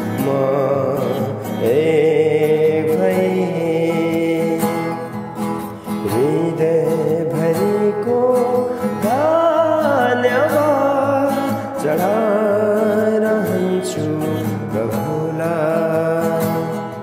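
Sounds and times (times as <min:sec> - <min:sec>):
instrumental backing: 0:00.0 - 0:17.0.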